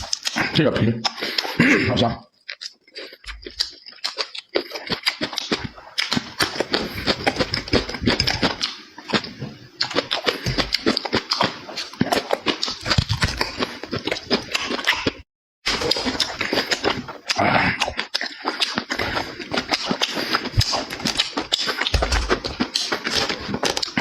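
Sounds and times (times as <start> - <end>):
wet chewing and lip-smacking: 0.0 - 24.0.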